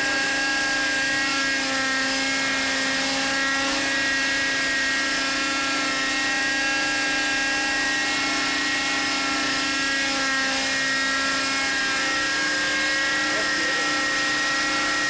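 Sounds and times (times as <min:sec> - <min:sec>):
model helicopter engine whine: 0:00.0 - 0:15.0.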